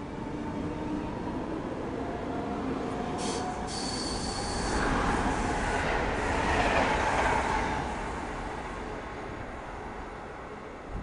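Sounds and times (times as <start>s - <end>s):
train running on rails: 0.0s - 11.0s.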